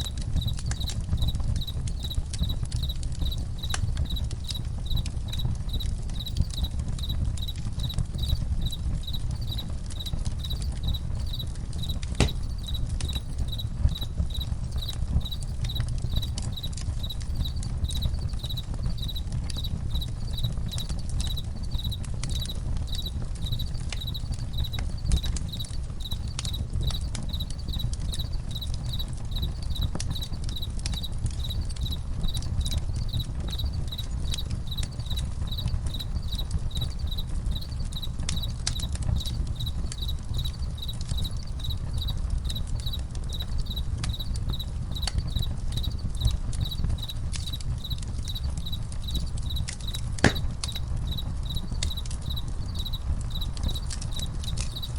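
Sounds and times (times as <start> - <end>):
crackling campfire: 0.0 - 54.9
crickets chirping: 0.0 - 54.9.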